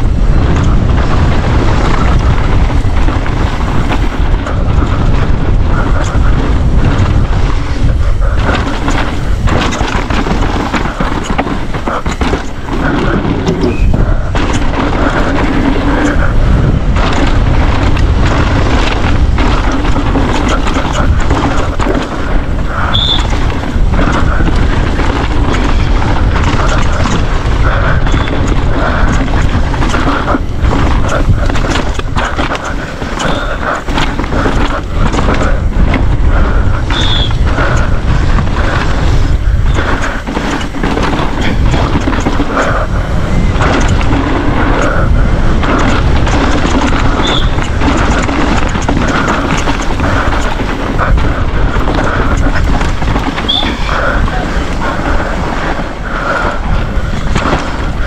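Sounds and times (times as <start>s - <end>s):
bike knocks and rattles: 0.0s - 58.0s
tyres on loose dirt: 0.0s - 58.0s
wind buffeting microphone: 0.0s - 58.0s.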